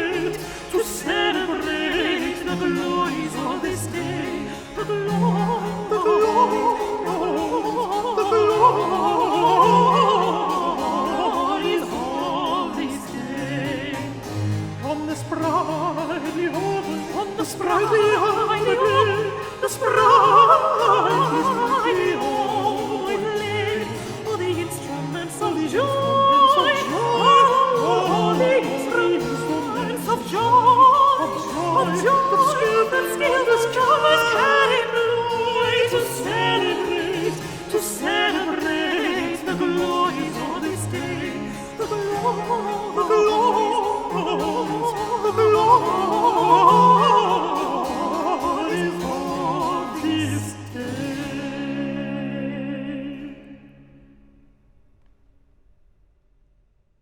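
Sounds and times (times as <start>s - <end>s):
harpsichord: 0.0s - 52.9s
cello: 0.0s - 54.2s
two alto voices singing: 0.0s - 54.2s.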